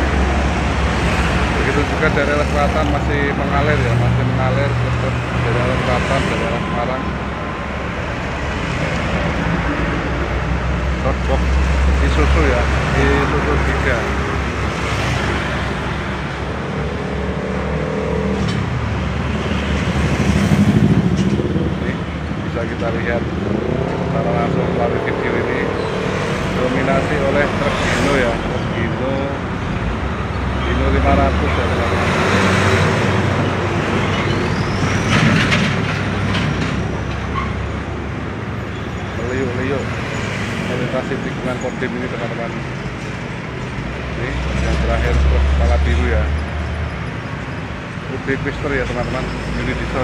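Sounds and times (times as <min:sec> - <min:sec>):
motorcycles passing: 0:00.0 - 0:46.3
traffic low rumble: 0:00.0 - 0:50.0
tyre and road noise: 0:00.0 - 0:50.0.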